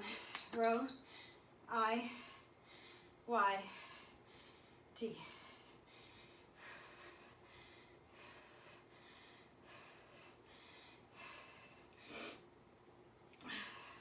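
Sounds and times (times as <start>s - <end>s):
woman breathing hard: 1.0s - 12.4s, 13.4s - 14.0s.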